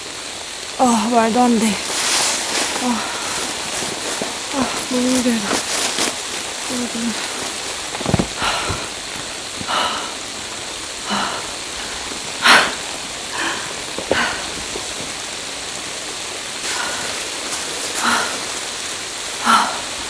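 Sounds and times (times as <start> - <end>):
wet snow falling hiss: 0.0 - 20.0.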